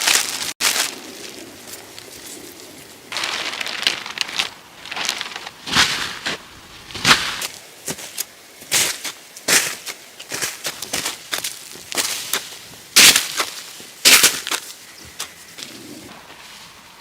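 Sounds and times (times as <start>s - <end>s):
crunching and rustling: 0.0s - 17.0s.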